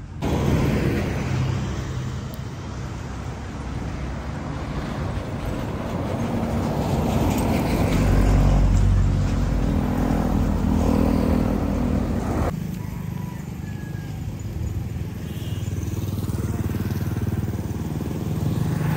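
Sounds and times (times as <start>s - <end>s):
truck passing by: 0.0s - 18.9s
car passing by: 0.2s - 12.6s, 15.8s - 18.9s.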